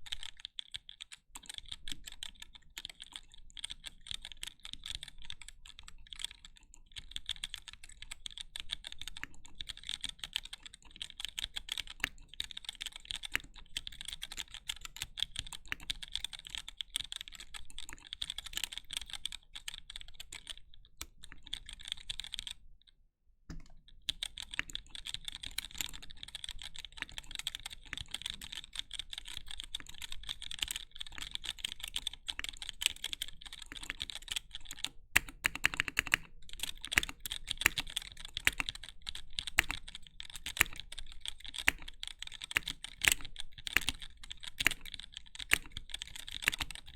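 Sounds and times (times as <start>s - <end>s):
mechanical keyboard typing: 0.0s - 22.6s, 23.5s - 46.9s.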